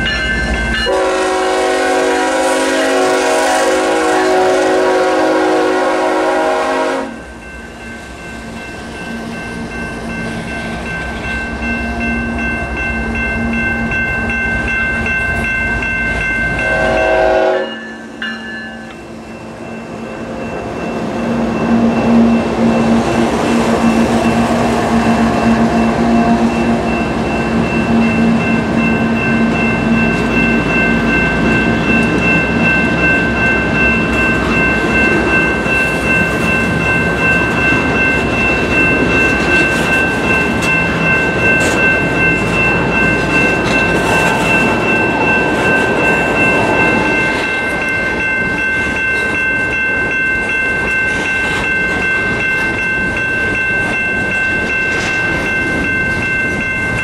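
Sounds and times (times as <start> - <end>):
diesel locomotive engines: 0.0 - 57.0
train cars rumbling: 0.0 - 57.0
high-pitched ringing tones: 7.2 - 57.0.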